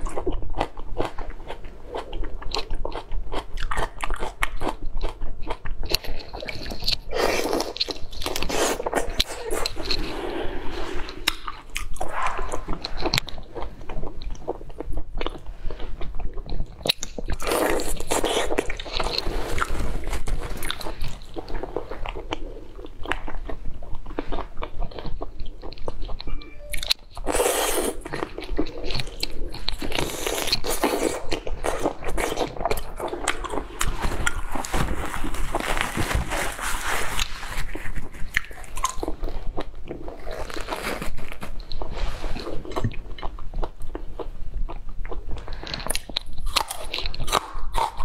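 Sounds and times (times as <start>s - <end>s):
crunchy wet chewing: 0.0s - 10.4s, 11.0s - 36.2s, 37.1s - 48.0s.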